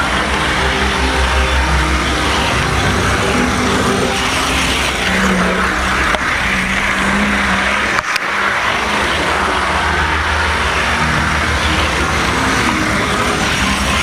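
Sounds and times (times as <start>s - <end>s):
motor hum with wavering tone: 0.0s - 14.0s.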